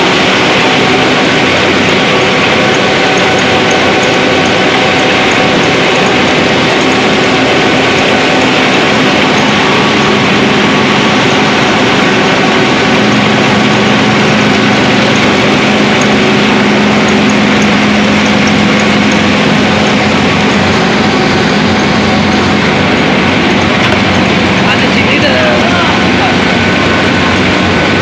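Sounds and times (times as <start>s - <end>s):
rice mill machinery din: 0.0s - 28.0s
steady low hum: 0.0s - 28.0s.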